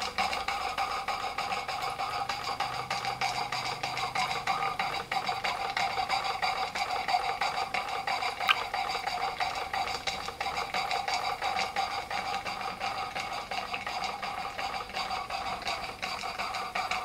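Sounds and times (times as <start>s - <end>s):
steam engine ticking: 0.0s - 17.0s.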